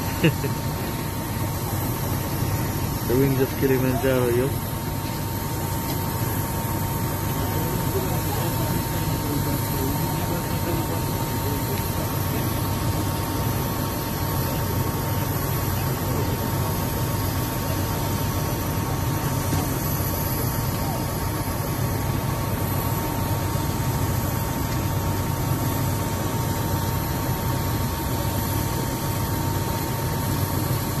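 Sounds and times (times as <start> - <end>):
auxiliary power unit drone: 0.0 - 31.0.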